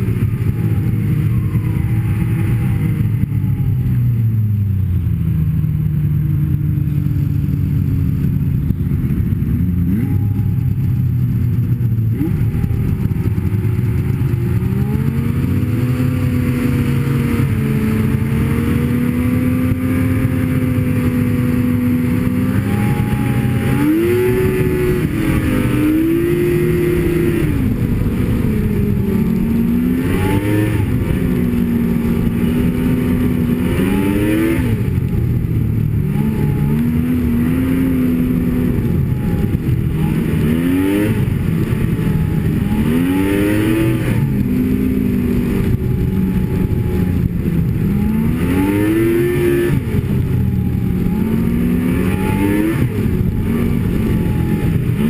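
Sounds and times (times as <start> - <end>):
snowmobile engine revving: 0.0 - 5.0, 5.6 - 55.0.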